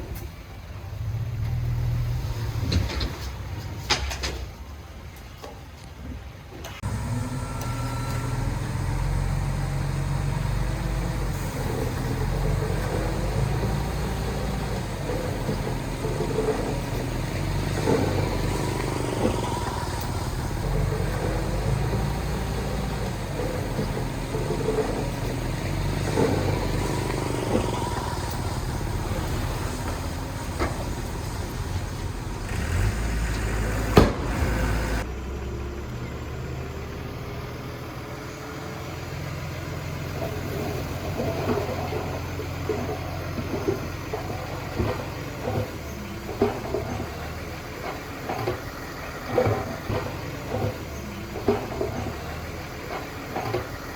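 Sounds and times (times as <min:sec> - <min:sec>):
diesel machinery running: 0:00.0 - 0:53.9.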